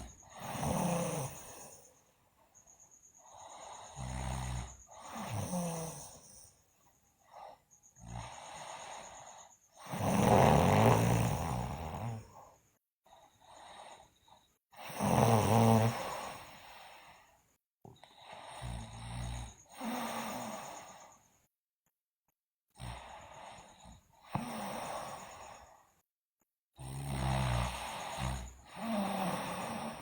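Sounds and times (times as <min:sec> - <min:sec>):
girl snoring: 0:00.0 - 0:01.9, 0:03.2 - 0:06.6, 0:07.2 - 0:12.6, 0:13.2 - 0:17.2, 0:18.0 - 0:21.2, 0:22.8 - 0:25.8, 0:26.8 - 0:30.0.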